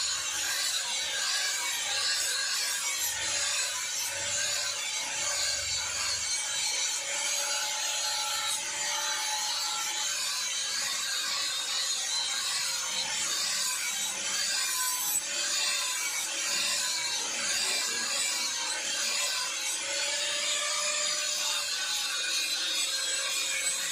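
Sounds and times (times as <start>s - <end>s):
angle grinder grinding metal: 0.0s - 23.9s.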